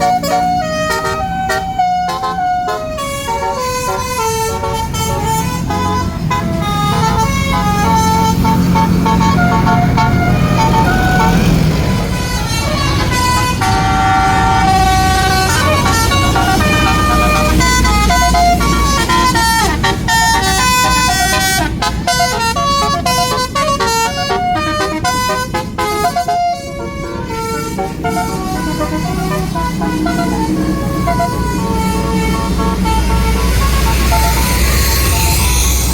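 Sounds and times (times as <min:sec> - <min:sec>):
bus engine rumble: 0:00.0 - 0:35.9
bus horn playing a tune: 0:00.0 - 0:35.9.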